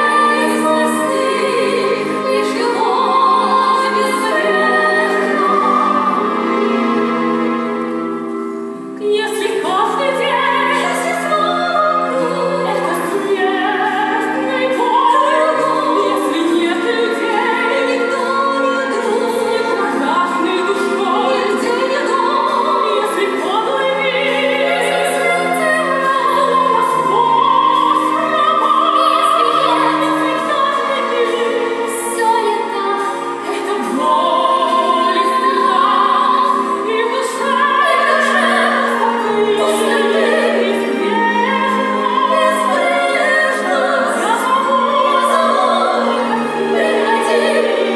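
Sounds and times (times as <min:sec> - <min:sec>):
instrumental accompaniment: 0:00.0 - 0:47.9
women singing with vibrato: 0:00.0 - 0:47.9.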